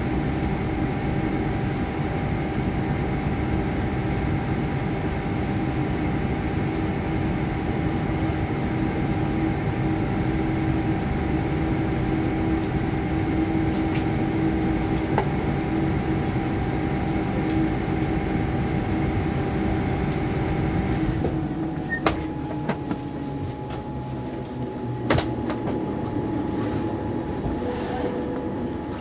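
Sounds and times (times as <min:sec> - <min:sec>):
aircraft cabin rumble: 0:00.1 - 0:29.0.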